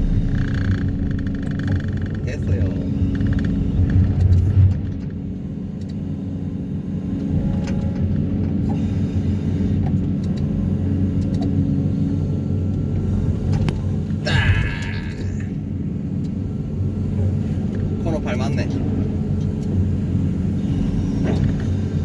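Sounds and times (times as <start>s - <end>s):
excavator engine rumble: 0.0s - 11.1s, 11.9s - 22.0s.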